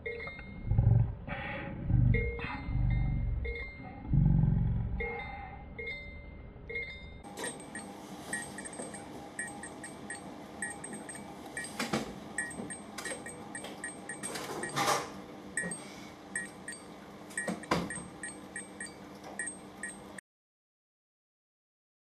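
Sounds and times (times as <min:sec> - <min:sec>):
electrical hum: 0:00.0 - 0:20.2.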